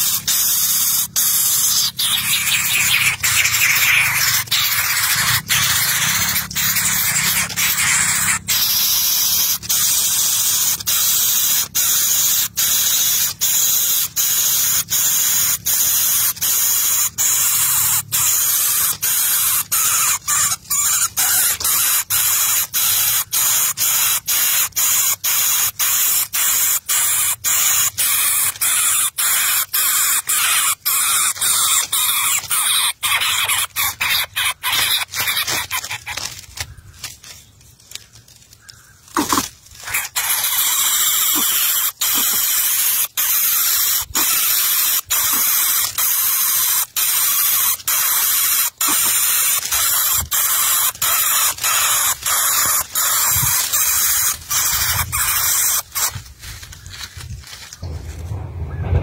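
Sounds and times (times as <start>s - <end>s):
nestling bird hissing: 0.0s - 37.0s, 38.6s - 56.2s.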